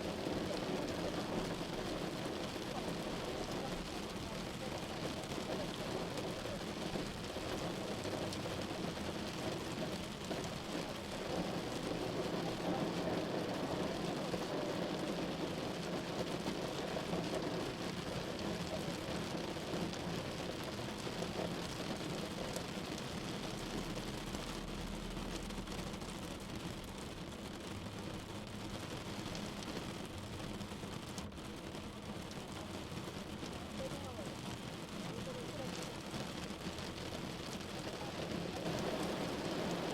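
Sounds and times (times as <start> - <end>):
rain on a car: 0.0 - 39.9
road and engine noise: 0.0 - 39.9.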